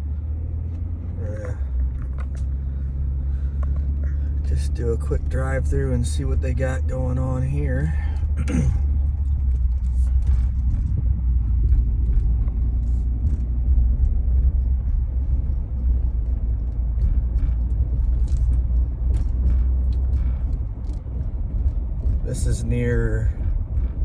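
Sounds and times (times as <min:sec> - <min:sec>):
car road rumble inside cabin: 0:00.0 - 0:24.0.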